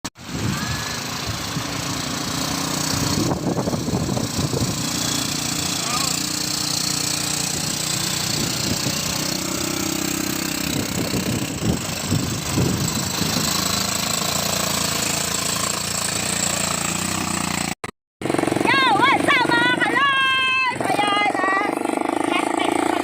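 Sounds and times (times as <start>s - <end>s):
quad bike engine running: 0.2s - 23.0s.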